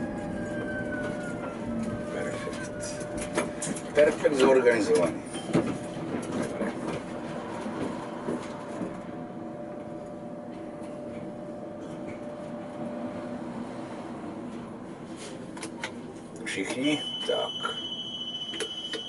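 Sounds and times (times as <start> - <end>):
tram electrical hum: 0.0 - 19.0.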